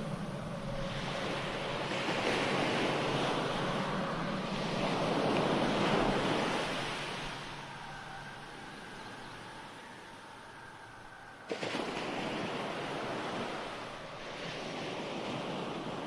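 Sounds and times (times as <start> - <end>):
rushing wind: 0.0 - 16.0.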